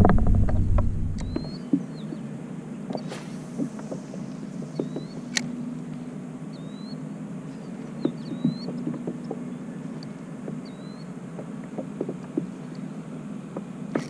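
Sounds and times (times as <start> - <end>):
water and hull noise: 0.0 - 14.0.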